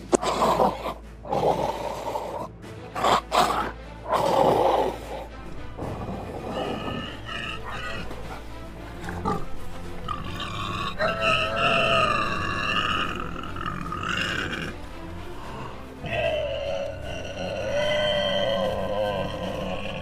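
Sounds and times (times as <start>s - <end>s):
animals grunting and growling: 0.0s - 20.0s
background music: 0.0s - 20.0s
music with sustained tones: 0.0s - 20.0s.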